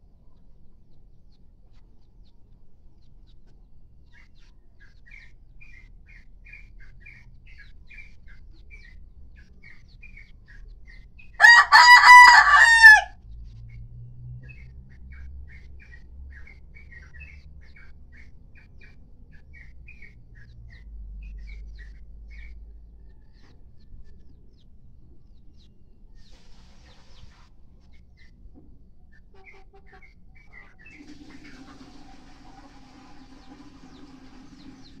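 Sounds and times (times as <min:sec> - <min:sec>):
birds chirping: 0:02.0 - 0:13.1, 0:14.4 - 0:32.2, 0:33.1 - 0:35.0.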